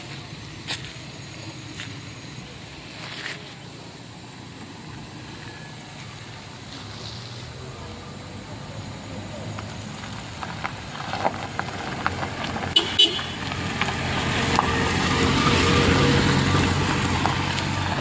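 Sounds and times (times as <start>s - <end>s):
machinery engines rumbling: 0.0s - 18.0s.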